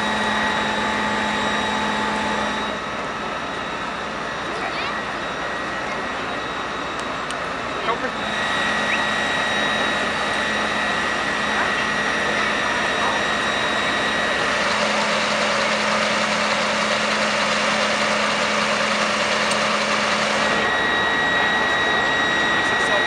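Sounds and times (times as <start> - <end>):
diesel engine running: 0.0 - 23.0
steady high whine: 0.0 - 23.0.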